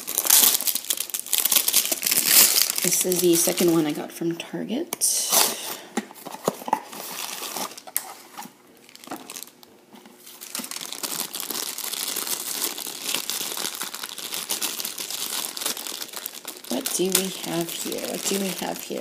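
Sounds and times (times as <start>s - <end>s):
foil bag crinkling: 0.0s - 4.1s, 5.5s - 19.0s.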